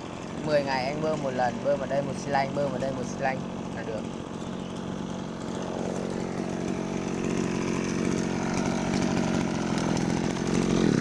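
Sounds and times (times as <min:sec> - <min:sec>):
brush cutter engine running: 0:00.0 - 0:11.0.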